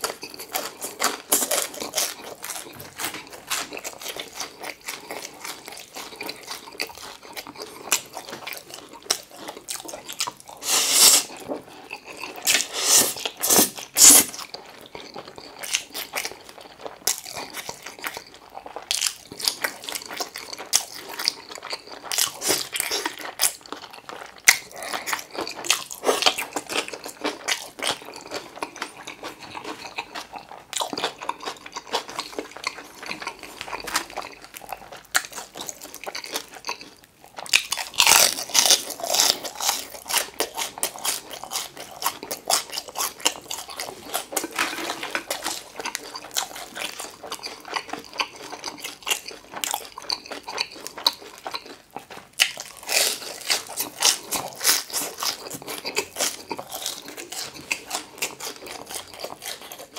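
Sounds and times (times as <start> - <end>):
crunching food: 0.0 - 59.9
wet chewing: 0.0 - 59.9.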